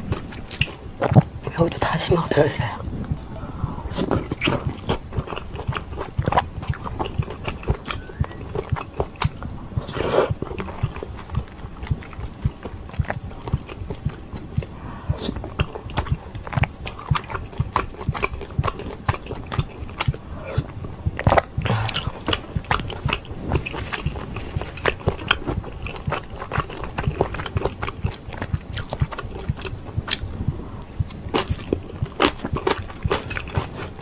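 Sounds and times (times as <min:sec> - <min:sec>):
wet chewing and smacking: 0:00.0 - 0:34.0.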